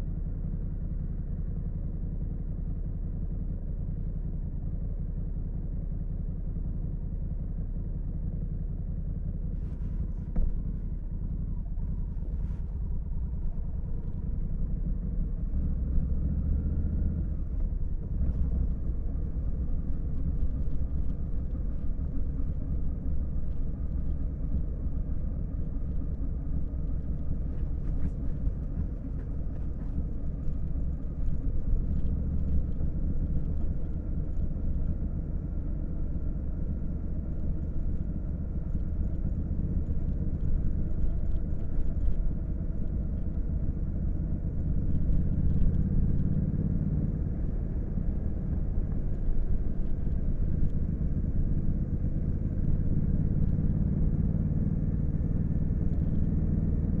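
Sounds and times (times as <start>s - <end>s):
motorcycle engine rumbling: 9.6s - 57.0s.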